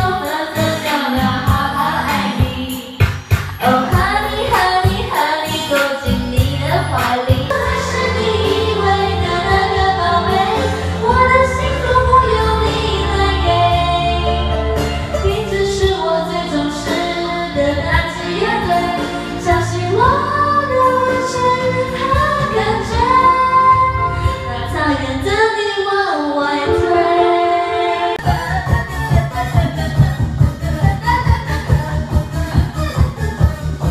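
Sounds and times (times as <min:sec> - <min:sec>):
karaoke backing track: 0:00.0 - 0:33.9
women singing into microphones: 0:00.0 - 0:33.9.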